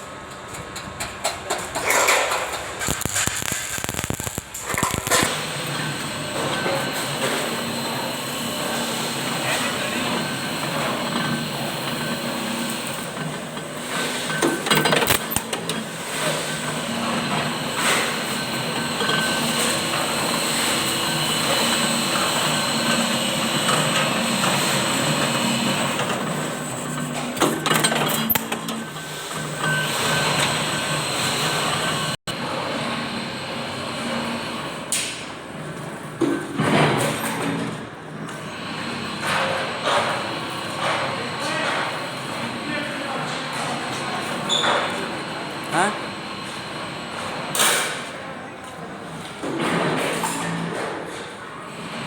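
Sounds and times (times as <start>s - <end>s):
workshop machinery humming: 0.0s - 52.0s.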